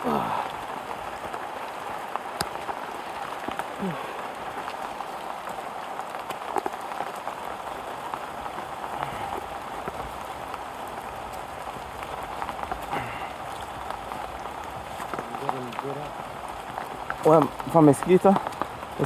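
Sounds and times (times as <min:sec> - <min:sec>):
rain on foliage: 0:00.0 - 0:19.0
raindrop ticks: 0:00.0 - 0:19.0.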